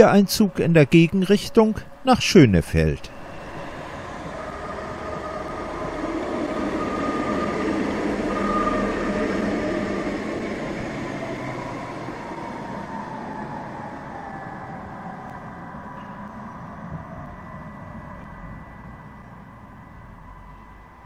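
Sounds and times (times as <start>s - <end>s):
tram drive humming: 0.0s - 21.0s
tram wheels rumbling on rail: 0.0s - 21.0s.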